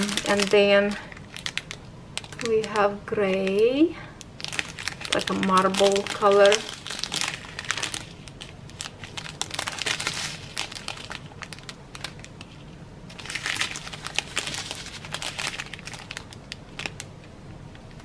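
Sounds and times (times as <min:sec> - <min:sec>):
small beads shifting in bag: 0:00.0 - 0:03.7, 0:04.3 - 0:12.3, 0:13.1 - 0:17.0
plastic bags crinkling: 0:00.0 - 0:18.0.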